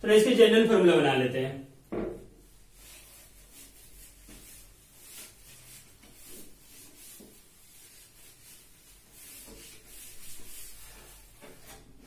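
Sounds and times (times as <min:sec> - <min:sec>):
cloth wiping whiteboard: 0:02.3 - 0:12.0.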